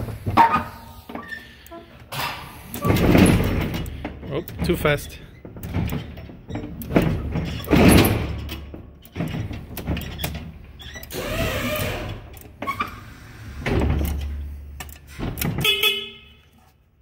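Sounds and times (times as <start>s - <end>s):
electric forklift mechanical noise: 0.0s - 16.0s.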